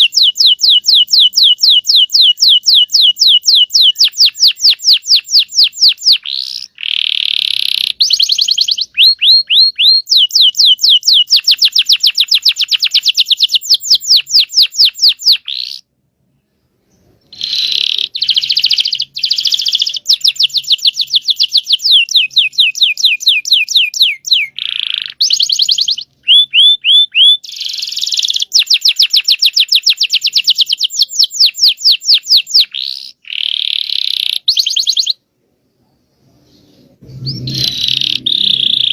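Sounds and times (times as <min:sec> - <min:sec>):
canary singing rolling trills: 0:00.0 - 0:35.3, 0:36.0 - 0:38.9.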